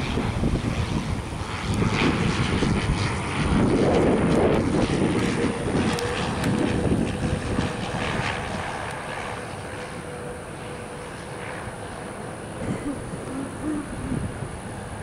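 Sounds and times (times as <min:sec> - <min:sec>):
propeller plane engines: 0:00.0 - 0:15.0.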